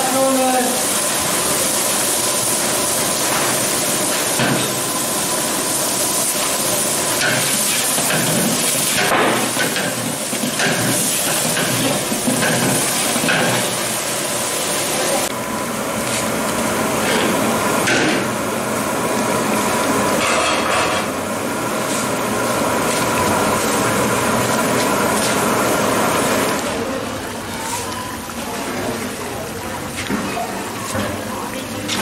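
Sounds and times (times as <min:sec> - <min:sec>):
pot bubbling on a burner: 0:00.0 - 0:20.4, 0:21.0 - 0:32.0.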